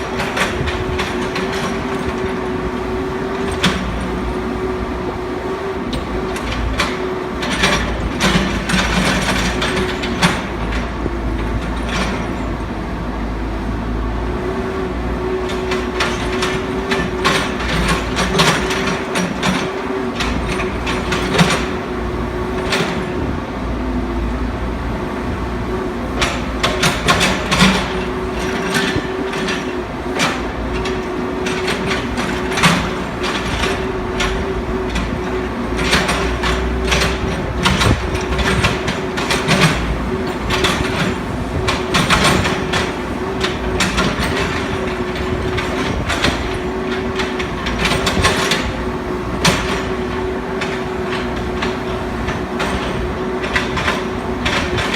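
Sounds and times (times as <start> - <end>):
excavator engine whining: 0.0 - 54.9.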